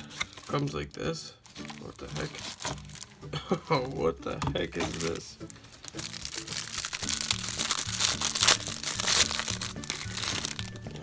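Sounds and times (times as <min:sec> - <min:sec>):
plastic wrapper crinkling: 0:00.0 - 0:11.0
background music with bass line: 0:01.6 - 0:11.0.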